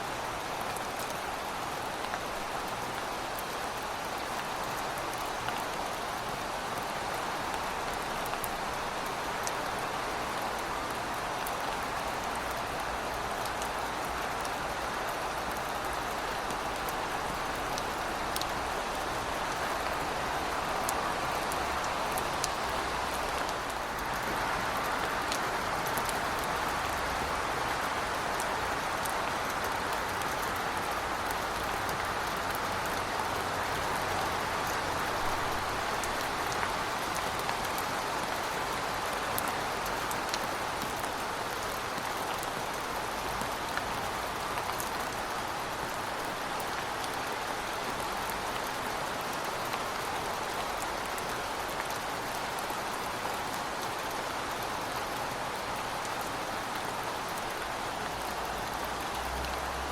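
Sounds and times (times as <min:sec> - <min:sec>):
heavy rain on hard surfaces: 0:00.0 - 0:59.9.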